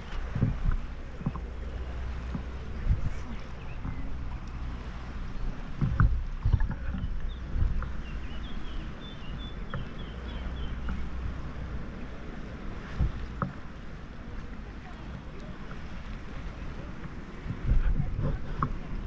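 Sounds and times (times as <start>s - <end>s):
water drips: 0.0s - 11.7s, 12.9s - 17.8s
sea water sloshing: 0.0s - 19.0s
wind rumble on microphone: 0.0s - 19.0s.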